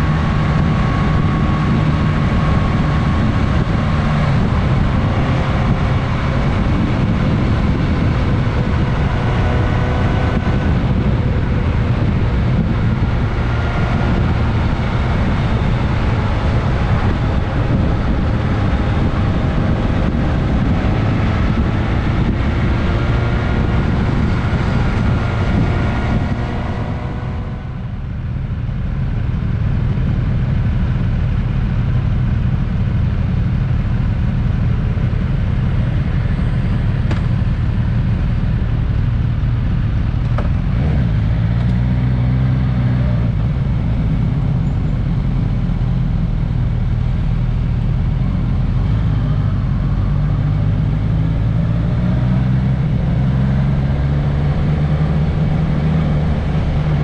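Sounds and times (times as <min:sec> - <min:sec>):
motorcycle engine revving: 0:00.0 - 0:28.5, 0:29.5 - 0:57.0.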